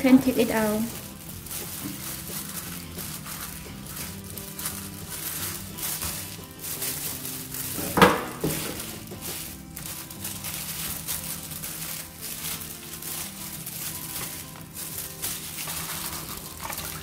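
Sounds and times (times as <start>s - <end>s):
soft background music: 0.0s - 17.0s
cooked chicken tearing: 0.8s - 17.0s.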